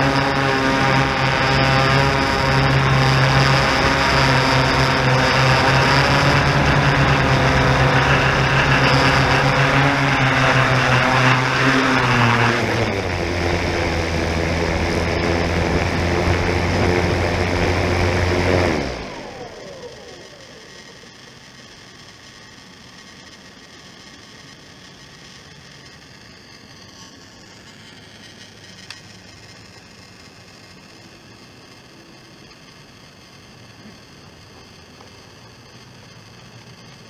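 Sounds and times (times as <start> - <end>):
drone propellers humming: 0.0 - 37.0.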